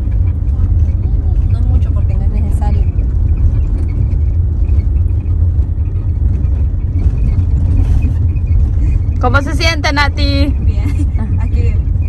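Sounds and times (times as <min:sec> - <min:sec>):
car engine running: 0:00.0 - 0:12.0
tyres rolling on dirt road: 0:00.0 - 0:12.0.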